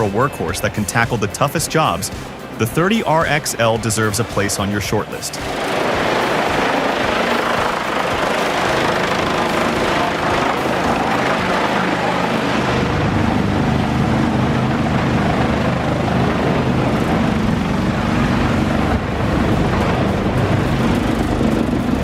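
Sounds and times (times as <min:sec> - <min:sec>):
large engine droning: 0:00.0 - 0:22.0.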